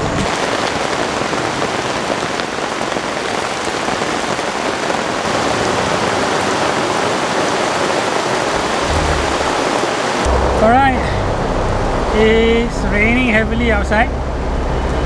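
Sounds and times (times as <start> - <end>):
heavy rain on grass: 0.0 - 12.3.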